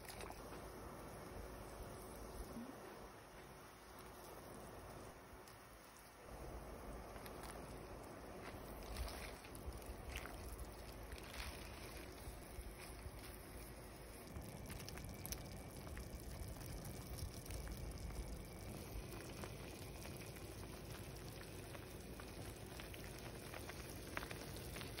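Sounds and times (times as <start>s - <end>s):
broth simmering and bubbling: 0.0s - 25.0s.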